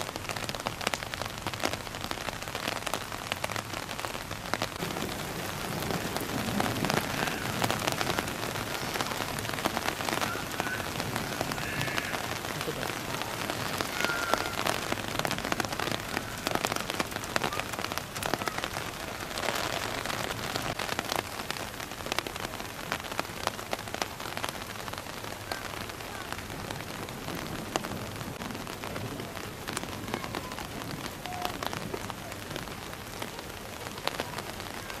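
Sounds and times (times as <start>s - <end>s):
heavy rain on water: 0.0s - 35.0s.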